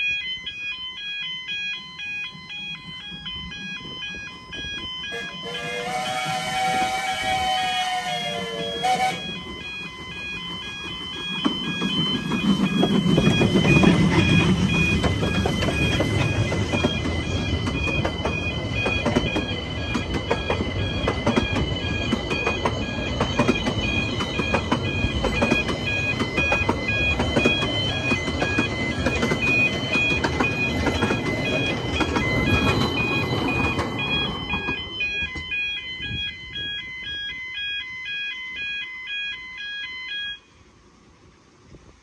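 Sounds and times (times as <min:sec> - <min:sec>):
level crossing alarm: 0:00.0 - 0:40.6
train wheels clicking on rail joints: 0:01.6 - 0:37.4
steam locomotive rumble: 0:02.2 - 0:37.3.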